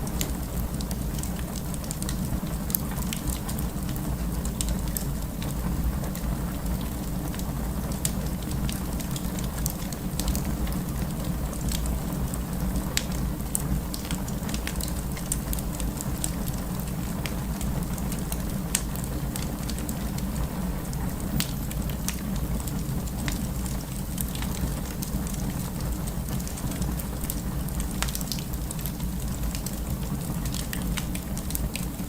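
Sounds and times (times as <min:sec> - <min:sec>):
low rumble of burning fire: 0:00.0 - 0:32.0
wood fire crackling and popping: 0:00.0 - 0:32.0.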